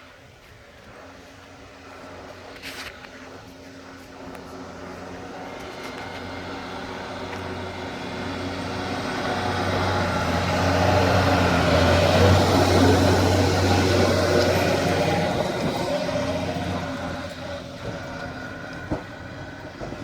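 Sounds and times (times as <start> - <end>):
rushing of plowed snow: 0.0 - 20.0
truck engine hum: 0.7 - 20.0.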